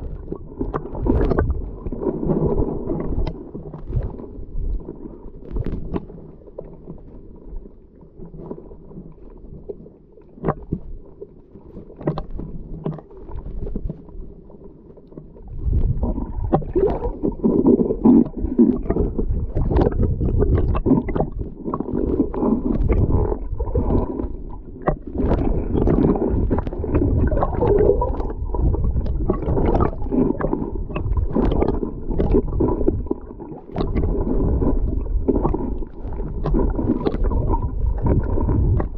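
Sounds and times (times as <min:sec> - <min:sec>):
sharp clicks underwater: 0:00.0 - 0:04.8, 0:05.4 - 0:07.1, 0:10.3 - 0:10.9, 0:11.9 - 0:14.0, 0:15.0 - 0:38.9
underwater bubbling rumble: 0:00.0 - 0:38.9.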